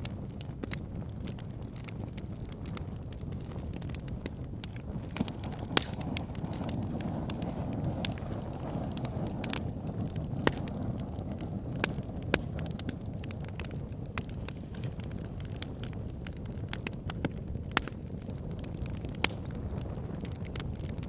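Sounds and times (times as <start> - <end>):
burning logs crackling and popping: 0.0 - 21.0
low rumble of flames: 0.0 - 21.0.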